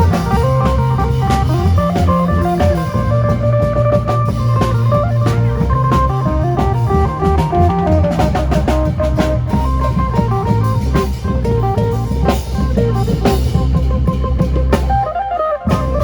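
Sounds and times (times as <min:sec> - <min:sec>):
drum kit: 0:00.0 - 0:16.0
heavy bass: 0:00.0 - 0:16.0.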